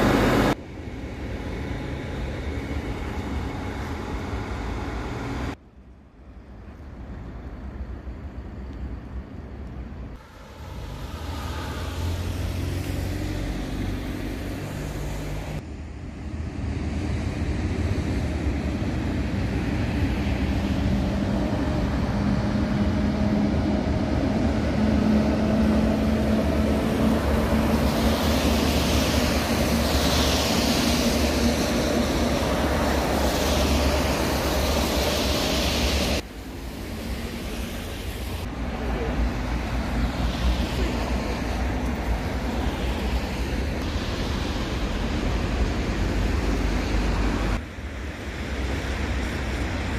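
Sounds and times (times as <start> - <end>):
train running hiss: 0.0 - 5.6, 10.2 - 15.6, 17.0 - 49.9
electric train rumbling: 0.0 - 49.9
steady vehicle noise: 0.0 - 49.9.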